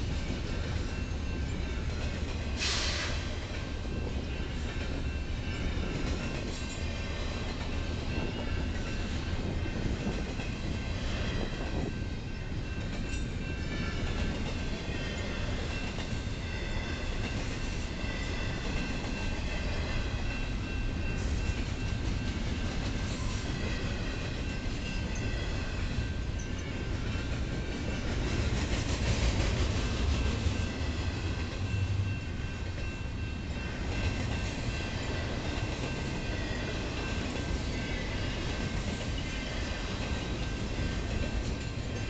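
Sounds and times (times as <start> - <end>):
clickety-clack of wheels: 0.0 - 20.6, 21.2 - 32.0, 32.6 - 42.0
train wheels rumbling on rails: 0.0 - 42.0.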